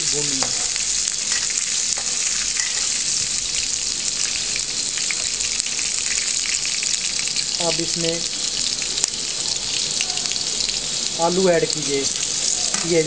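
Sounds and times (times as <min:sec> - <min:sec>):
faint crackle: 0:00.0 - 0:13.0
spices sizzling in hot oil: 0:00.0 - 0:13.0.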